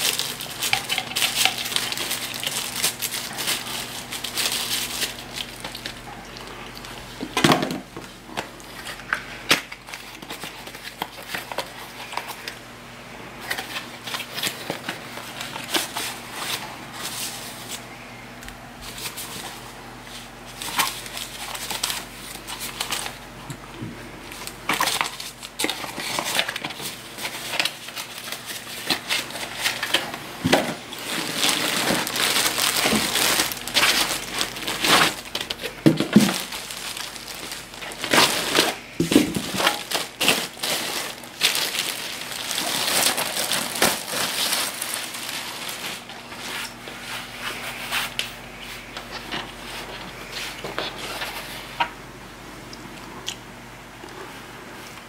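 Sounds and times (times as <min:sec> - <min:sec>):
plastic wrapping crinkling: 0:00.0 - 0:12.6, 0:13.4 - 0:17.9, 0:18.8 - 0:23.3, 0:24.2 - 0:51.8.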